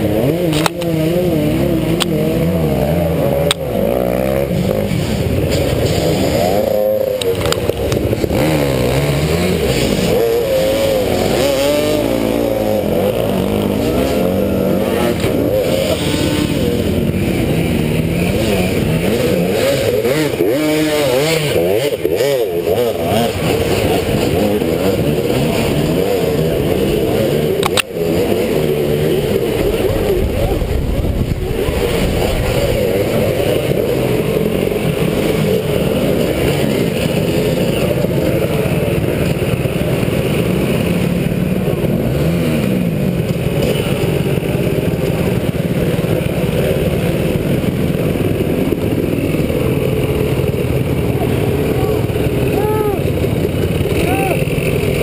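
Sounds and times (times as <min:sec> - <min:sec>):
dirt bike engines revving: 0:00.0 - 0:55.0
wind and ride noise: 0:00.0 - 0:55.0.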